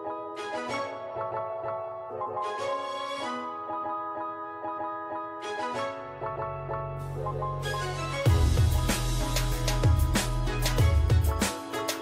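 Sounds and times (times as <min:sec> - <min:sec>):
background music bright notes: 0:00.0 - 0:12.0.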